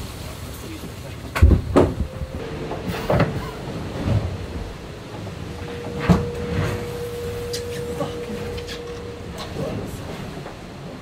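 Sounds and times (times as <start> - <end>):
hull and water noise: 0.0 - 11.0
knocks and thumps inside boat: 1.2 - 11.0
steady humming tone: 1.7 - 11.0.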